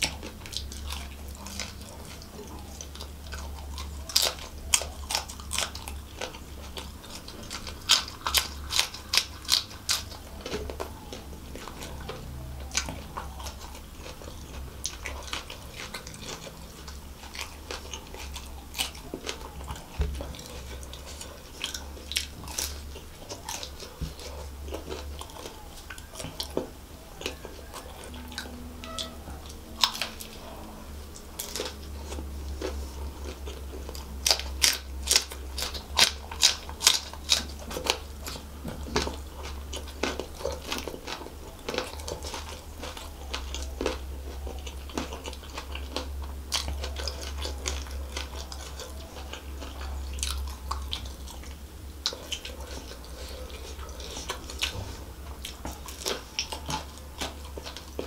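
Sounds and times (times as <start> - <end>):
crunching of crisp pastry: 0.0 - 58.0
steady low hum: 0.0 - 58.0.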